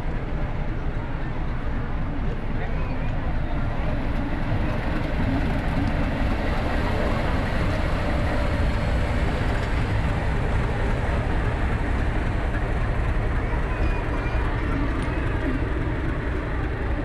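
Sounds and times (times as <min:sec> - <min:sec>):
diesel locomotive rumbling past: 0:00.0 - 0:17.0.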